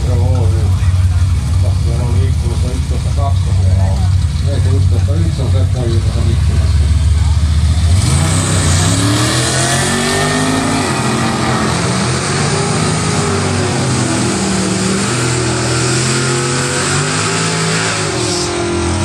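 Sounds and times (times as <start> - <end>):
drag cars accelerating hard: 0.0 - 19.0.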